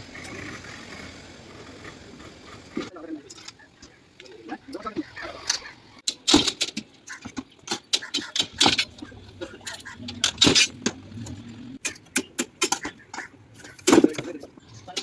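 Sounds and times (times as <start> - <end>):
metal and tools clinking: 2.8 - 15.0.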